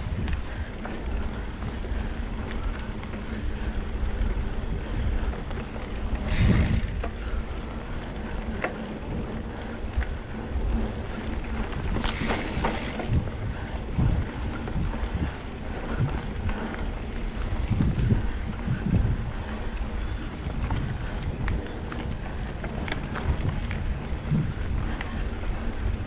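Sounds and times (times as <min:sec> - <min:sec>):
tyres rumbling on dirt trail: 0:00.0 - 0:26.0
wind buffeting microphone: 0:00.0 - 0:26.0.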